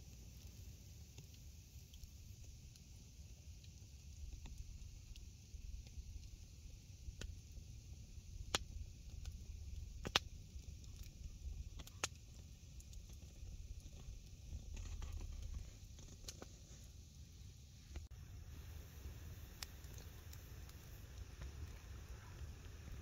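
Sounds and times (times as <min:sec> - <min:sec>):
campfire crackling: 0:00.0 - 0:23.0
low steady rumble: 0:00.0 - 0:23.0.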